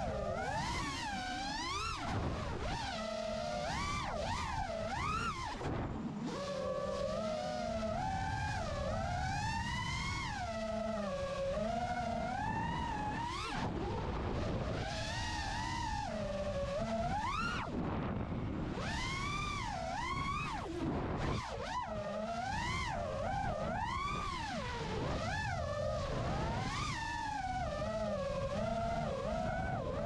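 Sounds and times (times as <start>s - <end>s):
drone motors whining: 0.0s - 30.0s
wind rush: 0.0s - 30.0s.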